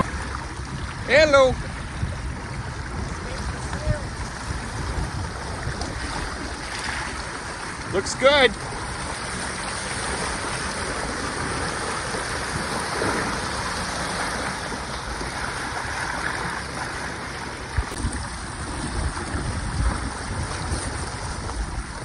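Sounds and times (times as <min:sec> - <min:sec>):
water rushing past hull: 0:00.0 - 0:22.0
wind noise: 0:00.0 - 0:22.0.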